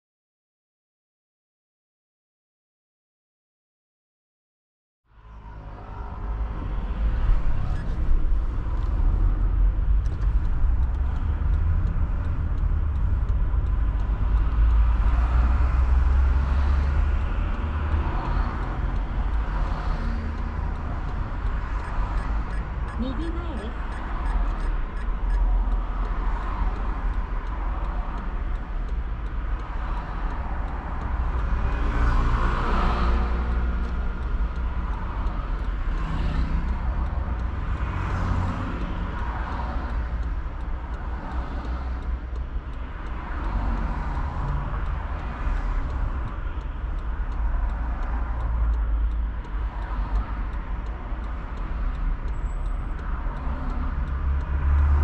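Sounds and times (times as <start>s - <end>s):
traffic rumble: 5.1s - 55.0s
vehicles passing by: 5.1s - 55.0s.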